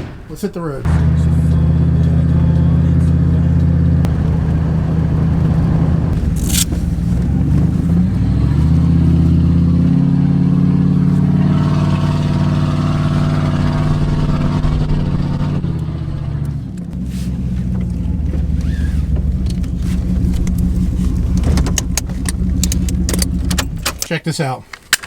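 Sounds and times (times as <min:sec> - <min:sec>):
truck engine accelerating: 0:00.9 - 0:24.0.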